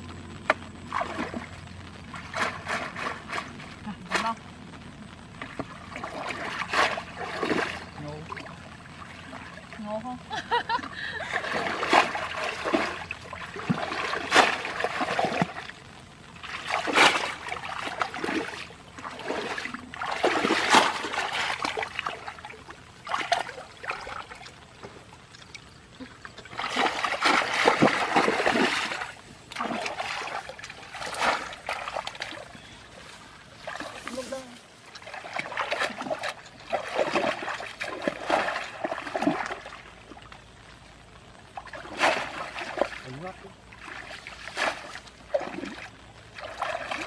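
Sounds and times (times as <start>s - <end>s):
muddy water splashing: 0.0s - 47.0s.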